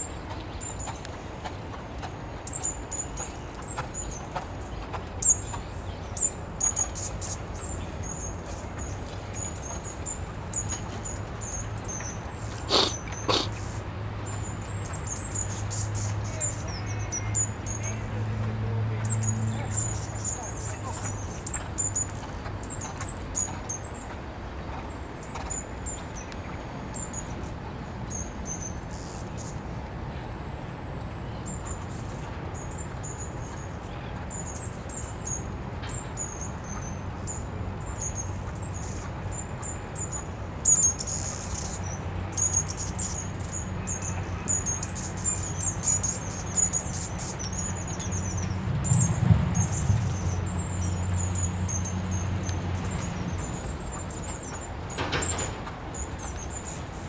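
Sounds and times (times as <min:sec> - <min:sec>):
small birds chirping: 0:00.0 - 0:30.2, 0:31.1 - 0:57.0.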